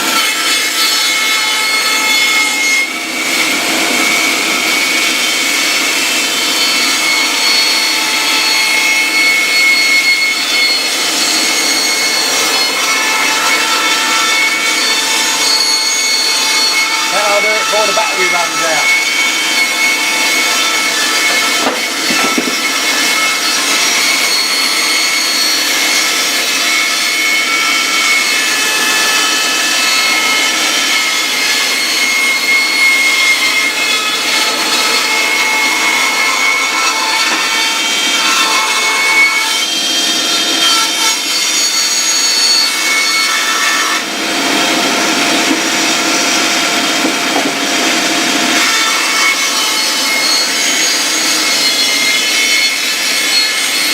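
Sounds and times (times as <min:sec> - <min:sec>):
bandsaw cutting wood: 0:00.0 - 0:53.9.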